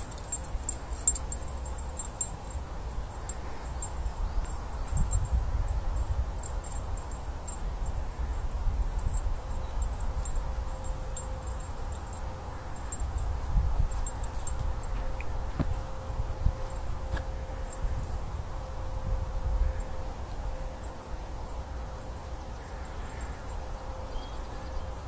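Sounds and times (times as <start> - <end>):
wind buffeting microphone: 0.0 - 20.6.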